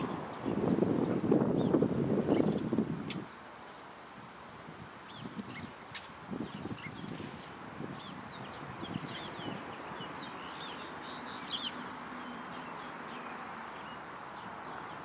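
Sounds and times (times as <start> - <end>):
small birds chirping: 0.0 - 3.8, 4.8 - 15.0
steady background hiss: 0.0 - 15.0.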